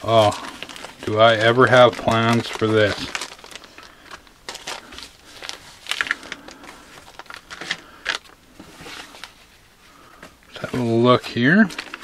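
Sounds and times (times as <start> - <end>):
plastic bags crinkling: 0.0 - 9.6, 10.4 - 12.0.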